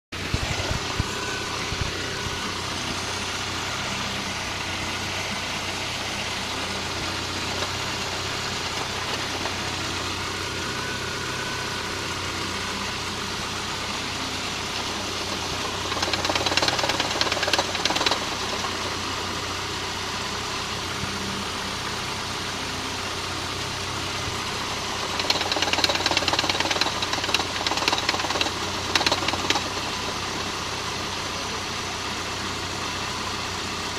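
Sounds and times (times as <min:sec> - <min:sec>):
car engine idling with knocking: 0:00.2 - 0:33.9.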